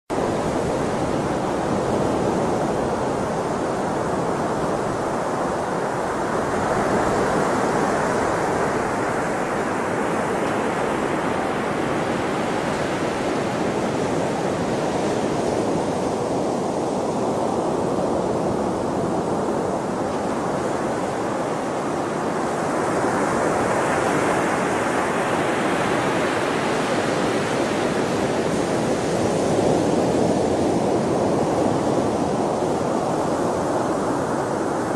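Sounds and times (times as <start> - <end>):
sea waves washing ashore: 0.1 - 34.9.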